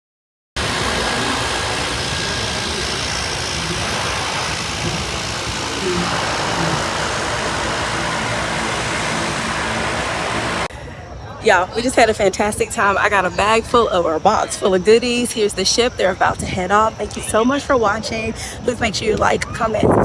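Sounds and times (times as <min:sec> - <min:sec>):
engine running: 0:00.6 - 0:10.7, 0:11.5 - 0:19.8.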